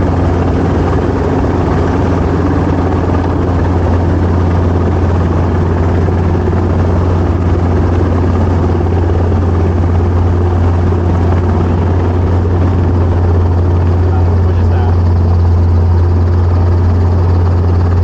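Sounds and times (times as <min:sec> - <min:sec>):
helicopter engine and rotors droning: 0:00.0 - 0:18.0.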